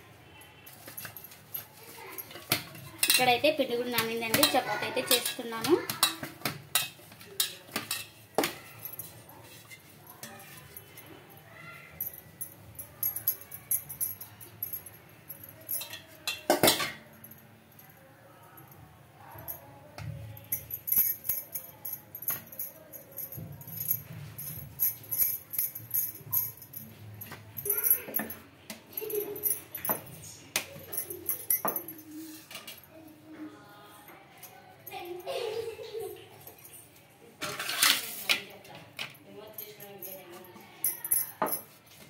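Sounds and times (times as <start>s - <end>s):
metal bangles jingling: 0.4s - 33.0s, 39.0s - 41.9s.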